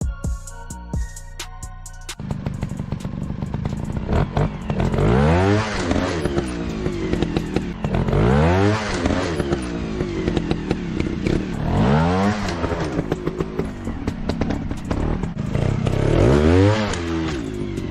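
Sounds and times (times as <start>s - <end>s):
motorcycle engine revving: 2.2s - 17.9s.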